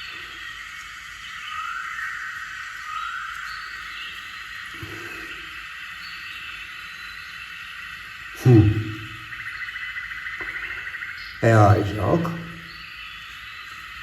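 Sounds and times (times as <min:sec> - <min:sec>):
birds singing: 0:00.0 - 0:14.0
insects chirring: 0:00.0 - 0:14.0.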